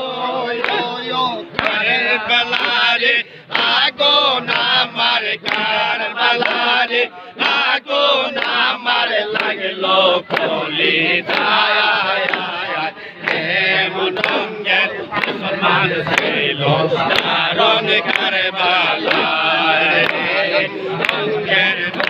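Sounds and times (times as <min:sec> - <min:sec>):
men chanting together: 0:00.0 - 0:22.0.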